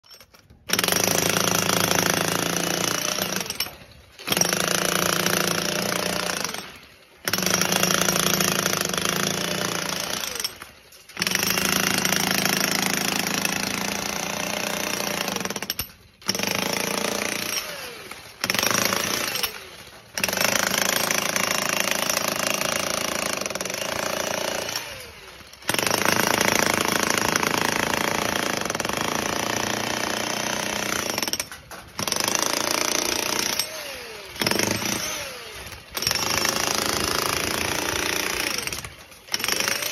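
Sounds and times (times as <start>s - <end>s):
demolition hammer chiselling concrete: 0.1s - 39.9s.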